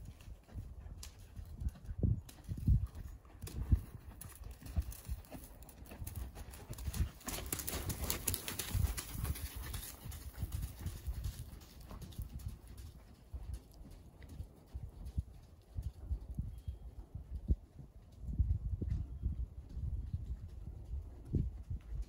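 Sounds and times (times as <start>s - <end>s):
horse hoofbeats on sand: 0.0s - 18.2s.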